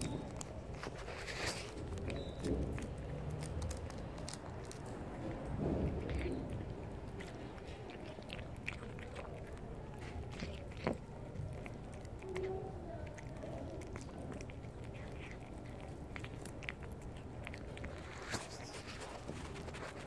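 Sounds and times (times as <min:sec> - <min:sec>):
cat chewing wet food: 0:00.0 - 0:20.0.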